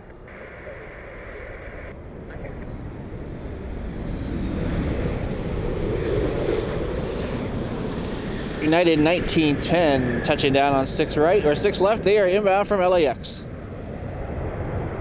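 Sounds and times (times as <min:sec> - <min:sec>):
jet airliner engine noise: 0:00.0 - 0:15.0
wind buffeting microphone: 0:01.8 - 0:15.0.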